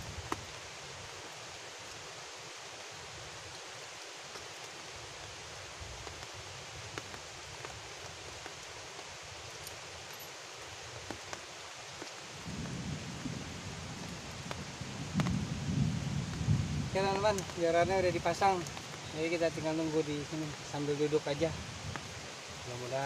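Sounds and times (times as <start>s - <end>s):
rain falling on river and foliage: 0.0s - 23.0s.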